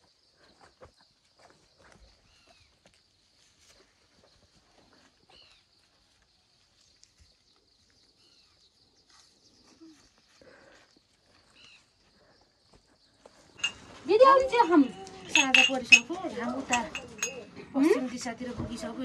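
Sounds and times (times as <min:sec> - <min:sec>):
footsteps on dirt path: 0:00.0 - 0:07.4, 0:08.2 - 0:19.0
faint bird chirp: 0:00.0 - 0:15.6.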